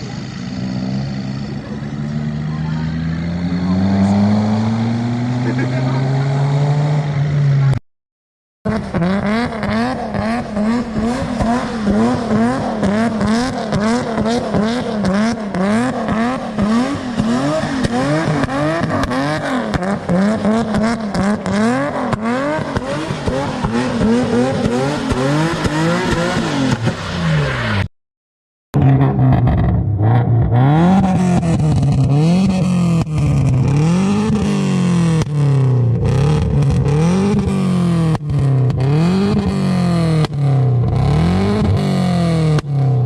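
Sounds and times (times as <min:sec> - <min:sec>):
car engine revving: 0:00.0 - 0:07.8, 0:08.7 - 0:27.9, 0:28.8 - 0:43.0.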